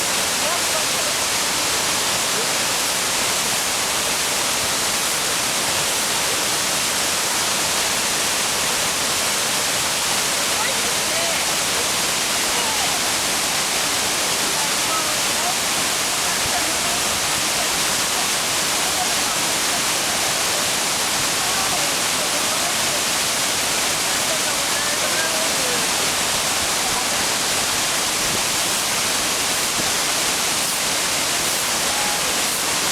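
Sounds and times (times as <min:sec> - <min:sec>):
loud rush of falling water: 0:00.0 - 0:32.9.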